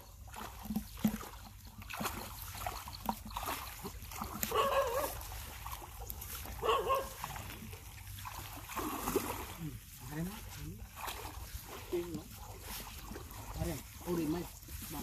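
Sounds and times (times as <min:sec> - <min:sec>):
splashing in shallow water: 0:00.0 - 0:15.0.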